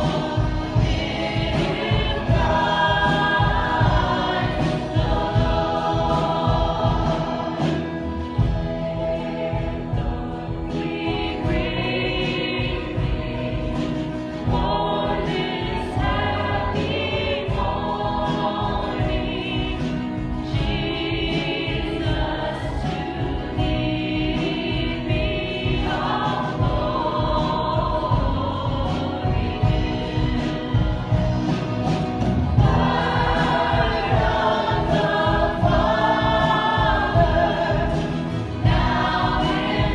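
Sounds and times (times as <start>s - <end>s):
instrumental accompaniment with beat: 0.0s - 39.9s
voices singing worship song: 0.0s - 39.9s.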